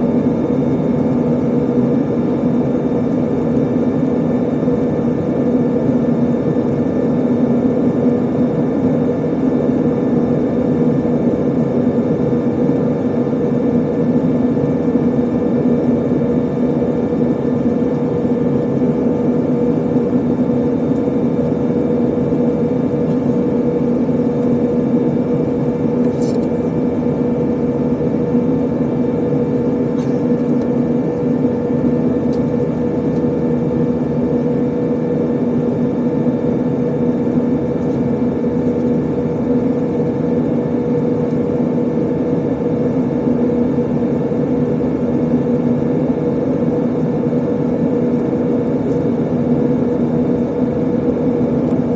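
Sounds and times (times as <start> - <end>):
airliner cabin engine noise: 0.0 - 51.9
constant hums: 0.0 - 51.9.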